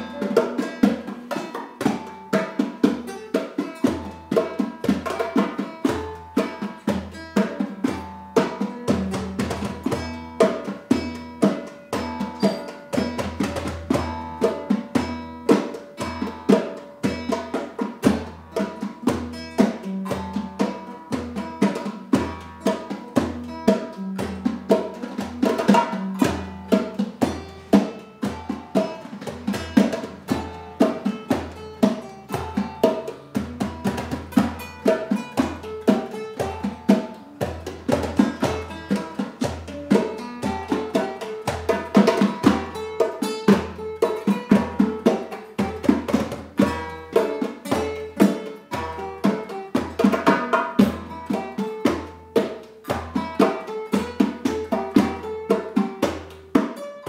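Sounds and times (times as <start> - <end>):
classical guitar strummed: 0.0 - 57.0
djembe beating: 0.0 - 57.0.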